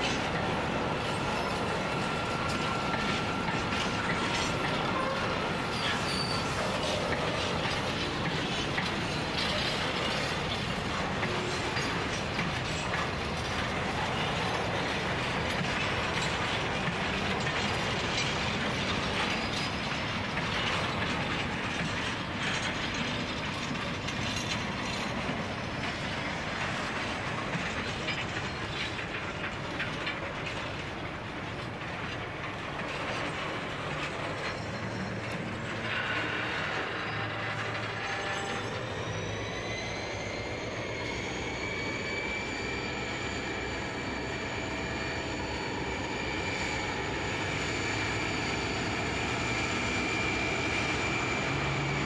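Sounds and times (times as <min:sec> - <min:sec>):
train wheels clattering on rails: 0:00.0 - 0:52.0.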